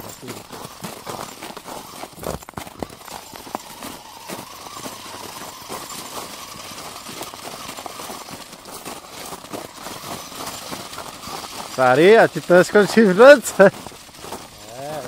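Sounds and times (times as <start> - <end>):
footsteps crunching in snow: 0.0 - 15.0
small electric motor whining: 0.0 - 15.0.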